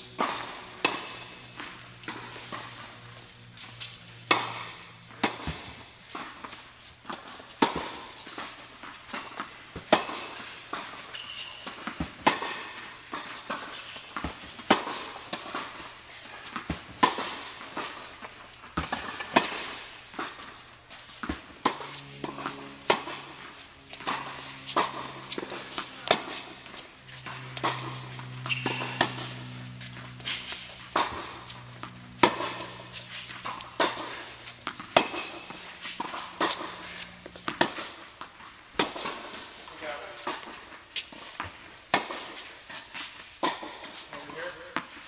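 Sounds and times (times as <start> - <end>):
tennis ball bouncing: 0.0 - 45.0
tennis racket hitting ball: 0.0 - 45.0.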